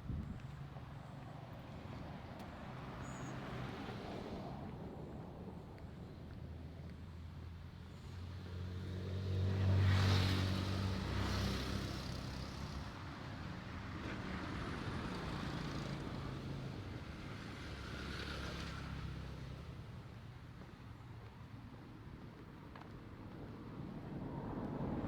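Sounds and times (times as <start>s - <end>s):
vehicles passing on road: 0.0s - 25.0s.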